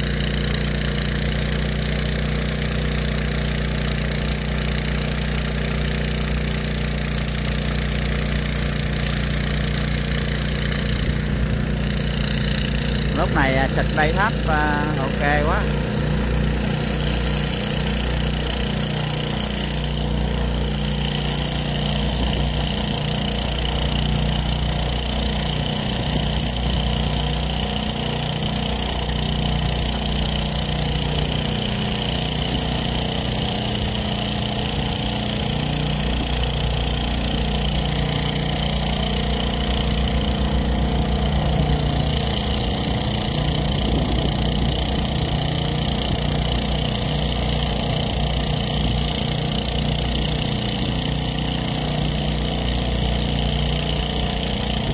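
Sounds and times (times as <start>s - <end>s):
motor humming steadily: 0.0s - 54.9s.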